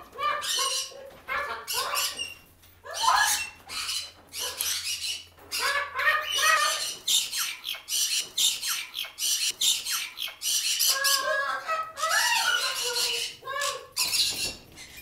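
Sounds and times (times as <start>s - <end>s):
voice-like parrot calls: 0.0s - 14.2s
parrots squawking: 0.0s - 15.0s.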